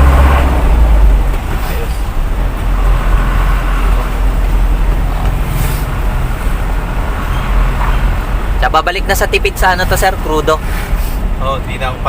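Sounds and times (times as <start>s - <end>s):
diesel truck engine running: 0.0s - 12.0s
road noise: 0.0s - 12.0s.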